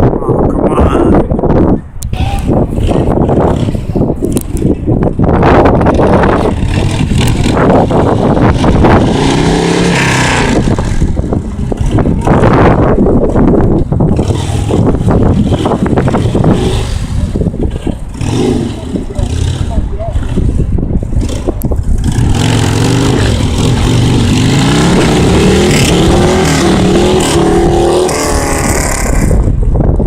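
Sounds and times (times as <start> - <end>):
motorcycle engine revving: 2.7 - 29.7.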